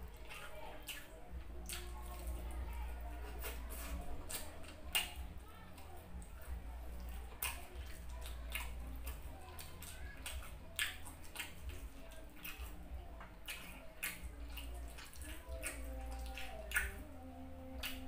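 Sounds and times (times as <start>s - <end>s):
chewing with wet mouth smacks: 0.0s - 18.0s.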